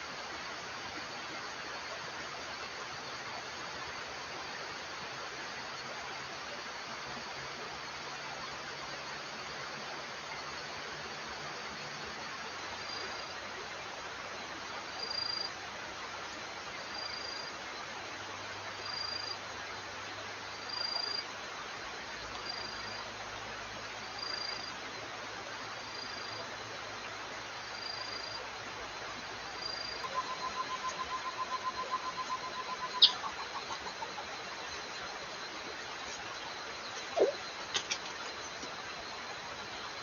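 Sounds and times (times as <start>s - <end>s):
insect chorus hiss: 0.0s - 40.0s.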